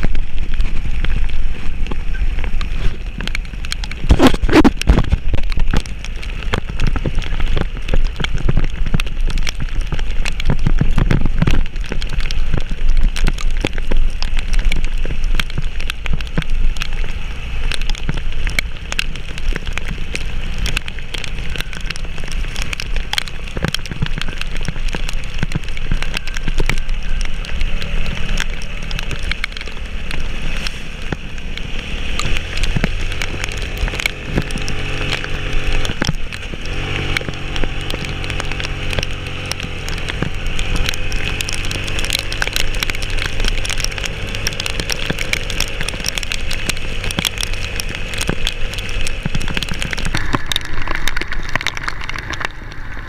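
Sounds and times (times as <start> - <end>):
raindrops pattering on surfaces: 0.0 - 53.0.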